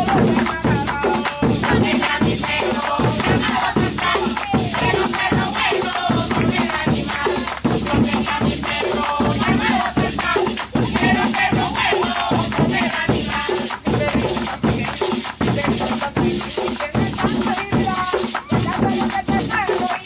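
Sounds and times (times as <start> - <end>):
hand drums: 0.0 - 20.0
hands clapping: 0.0 - 20.0
people singing: 0.0 - 20.0
rattling hand percussion: 0.0 - 20.0.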